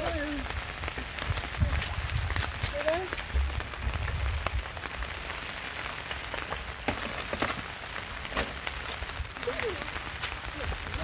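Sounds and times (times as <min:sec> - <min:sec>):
raindrops tapping on surfaces: 0:00.0 - 0:11.0
steady rain falling: 0:00.0 - 0:11.0.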